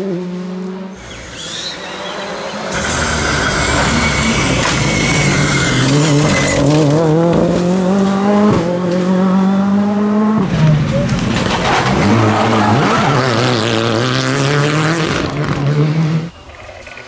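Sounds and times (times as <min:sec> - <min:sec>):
rally car passing at speed: 0:00.0 - 0:17.0.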